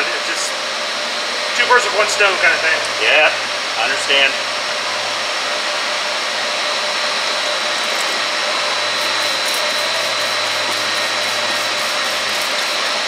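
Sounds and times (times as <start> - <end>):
machinery rushing noise: 1.0 - 13.0.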